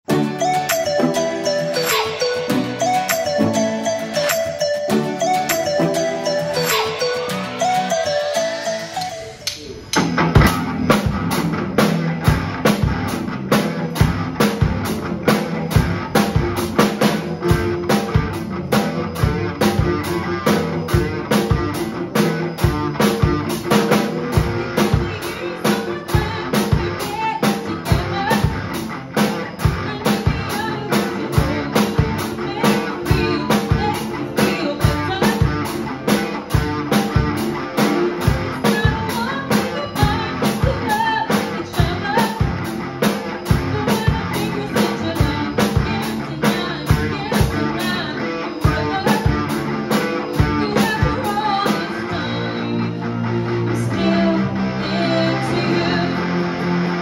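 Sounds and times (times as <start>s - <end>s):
drum kit rock beat: 0.0s - 57.0s
pop-punk backing track with guitars: 0.0s - 57.0s.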